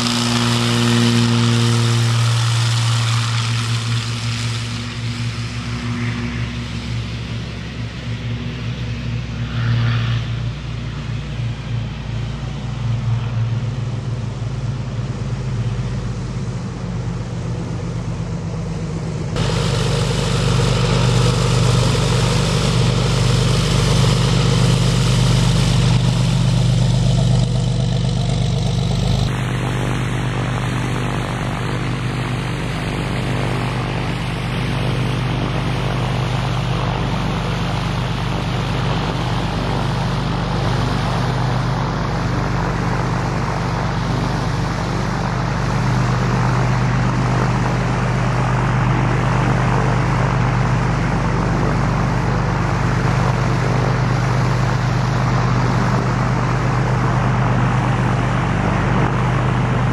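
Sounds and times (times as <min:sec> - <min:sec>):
distant aircraft drone: 0:00.0 - 0:59.9
propeller airplane engine running: 0:00.0 - 0:59.9.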